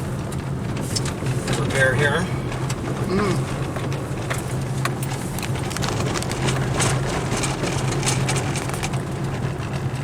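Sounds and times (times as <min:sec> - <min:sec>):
car engine and road drone: 0:00.0 - 0:10.0.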